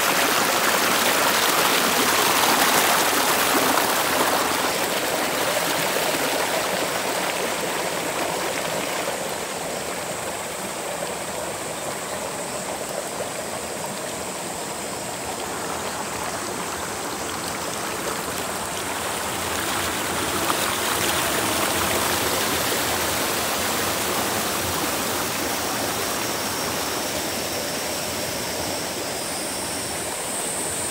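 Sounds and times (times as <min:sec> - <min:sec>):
stream flowing over rocks: 0:00.0 - 0:30.9.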